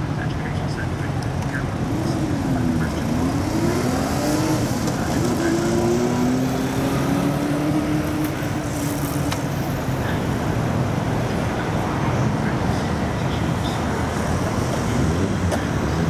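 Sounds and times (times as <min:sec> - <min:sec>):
cars and motorcycles passing: 0:00.0 - 0:16.0
traffic hum: 0:00.0 - 0:16.0.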